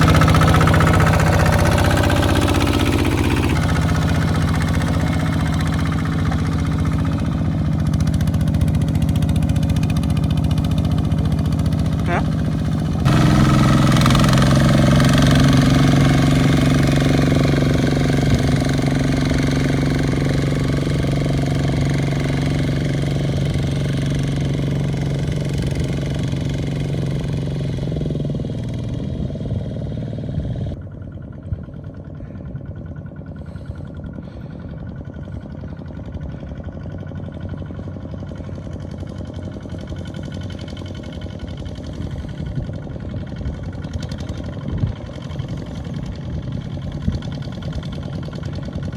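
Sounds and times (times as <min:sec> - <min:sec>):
engine knocks: 0:00.0 - 0:29.5, 0:30.6 - 0:48.9
tractor engine running: 0:00.0 - 0:48.9.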